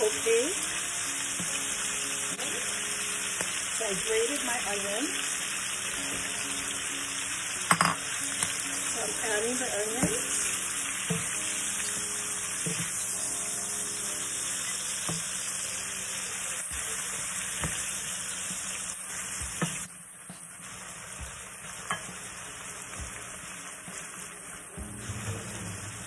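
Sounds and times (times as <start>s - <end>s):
food sizzling in a skillet: 0.0s - 26.0s.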